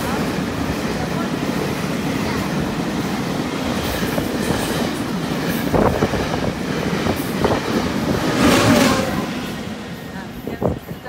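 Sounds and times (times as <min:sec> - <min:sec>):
train coaches passing at speed: 0:00.0 - 0:11.0.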